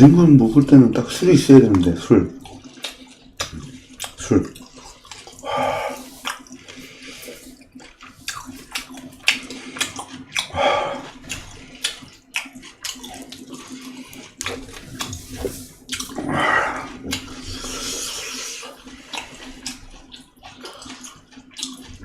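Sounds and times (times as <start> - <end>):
faint steady hum: 0.0 - 22.0
person chewing with wet mouth sounds: 1.2 - 22.0.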